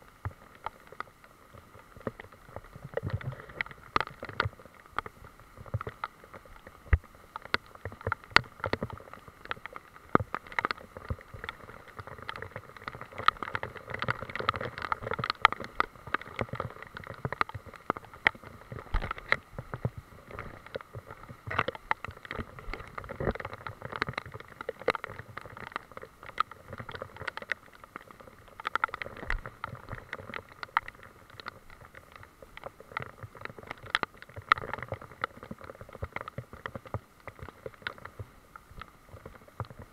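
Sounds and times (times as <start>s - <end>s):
rain hissing: 0.0s - 39.9s
drops tapping on camera: 2.0s - 39.9s.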